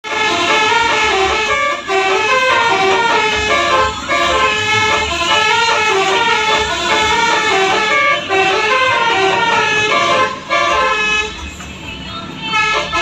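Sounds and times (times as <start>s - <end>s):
multi-trumpet air horn tune: 0.0s - 11.4s, 12.5s - 13.0s.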